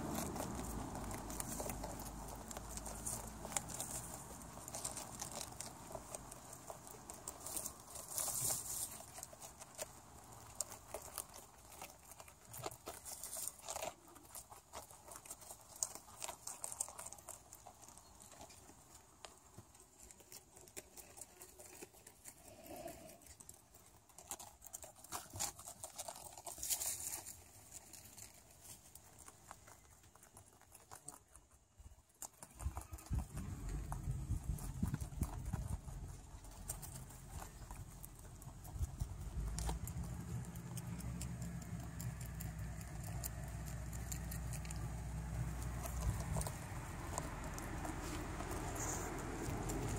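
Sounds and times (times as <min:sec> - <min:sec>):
rabbits crunching cabbage leaves: 0:00.0 - 0:49.9.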